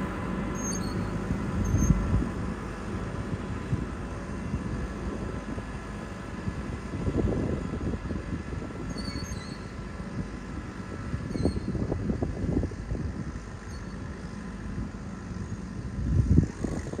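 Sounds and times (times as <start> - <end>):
distant tractor engine rumbling: 0.0 - 17.0.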